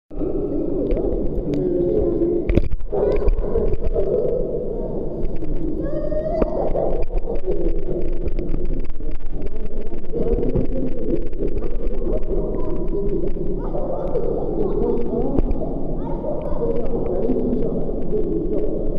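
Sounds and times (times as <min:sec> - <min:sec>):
water gurgling: 0:00.1 - 0:18.9.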